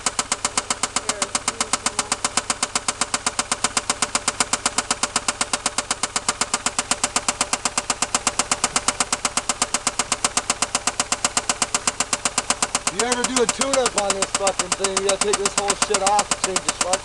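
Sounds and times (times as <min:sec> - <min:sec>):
car engine idling: 0:00.0 - 0:17.0
sharp regular engine tick: 0:00.0 - 0:17.0.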